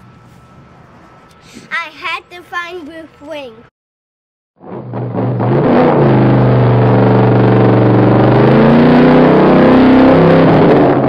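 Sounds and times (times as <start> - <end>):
engine-like drone: 0.0 - 3.7, 4.6 - 11.0.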